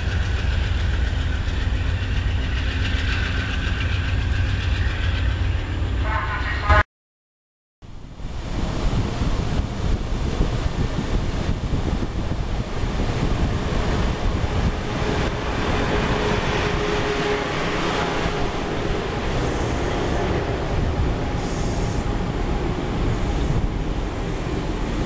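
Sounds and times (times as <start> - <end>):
train wheels rumbling on rail: 0.0 - 6.8, 8.3 - 25.0.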